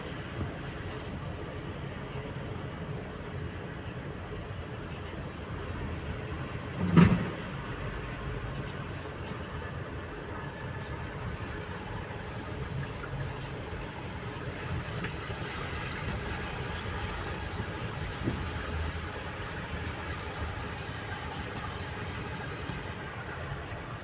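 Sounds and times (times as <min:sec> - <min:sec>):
car engines running: 0:00.0 - 0:24.0.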